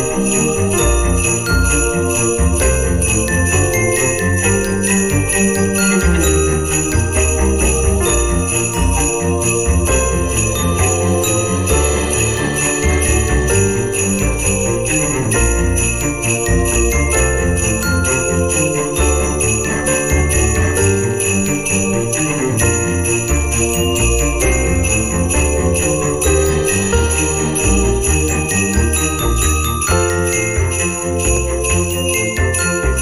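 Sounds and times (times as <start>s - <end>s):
christmas music: 0.0s - 33.0s
jingle bells shaken: 0.0s - 33.0s.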